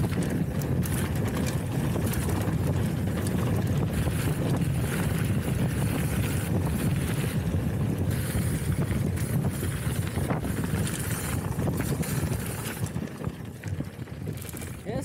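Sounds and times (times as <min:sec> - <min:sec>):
bike clicks and rattles: 0:00.0 - 0:15.0
bike tyres rumbling on trail: 0:00.0 - 0:15.0
wind buffeting microphone: 0:00.0 - 0:15.0.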